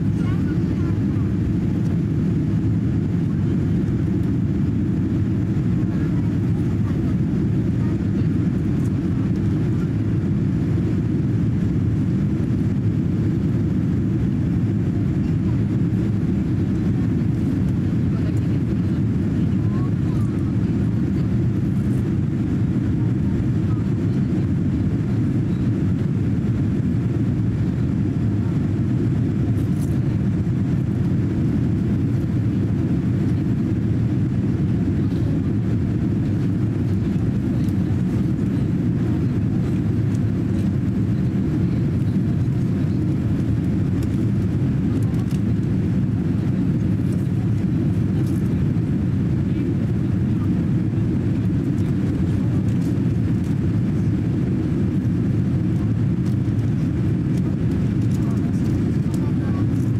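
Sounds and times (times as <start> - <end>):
airliner cabin engine rush: 0.0 - 59.9.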